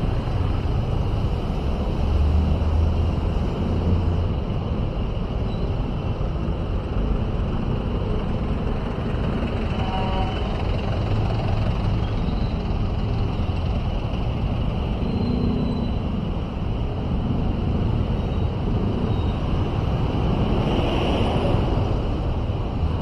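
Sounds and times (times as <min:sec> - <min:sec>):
traffic engines rumbling: 0:00.0 - 0:23.0.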